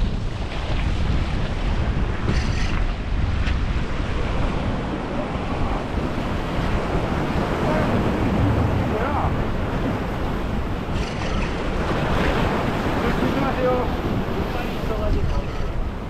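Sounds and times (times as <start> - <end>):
waves washing against rocks: 0.0 - 16.0
wind buffeting the microphone: 0.0 - 16.0.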